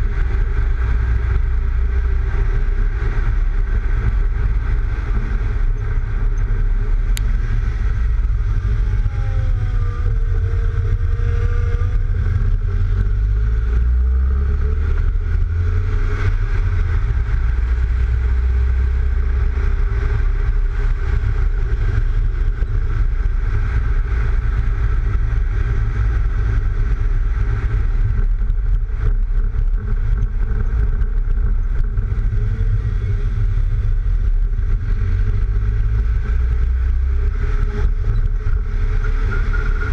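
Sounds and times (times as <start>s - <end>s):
car driving road noise: 0.0s - 39.9s
wind rumble on microphone: 0.0s - 39.9s.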